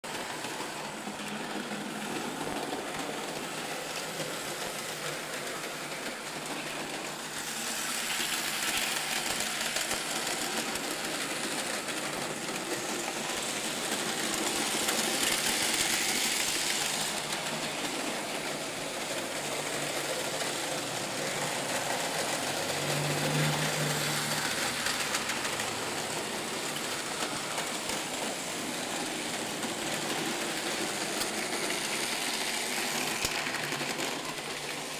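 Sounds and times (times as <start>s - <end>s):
model trains whirring and rattling: 0.0s - 34.9s.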